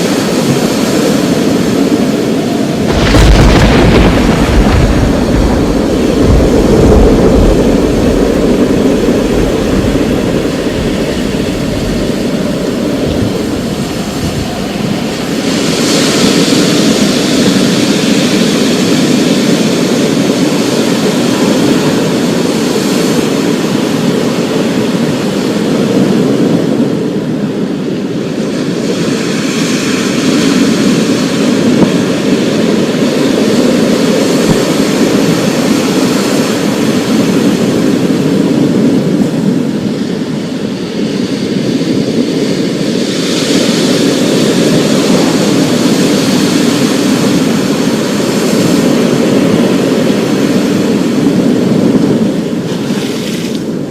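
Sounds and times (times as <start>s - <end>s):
storm rushing and rumbling: 0.0s - 53.9s.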